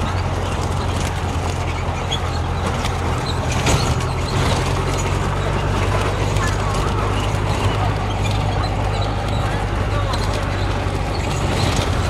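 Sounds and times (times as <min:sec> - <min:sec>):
vehicle engine running: 0:00.0 - 0:12.0
vehicle rattles and knocks: 0:00.0 - 0:12.0.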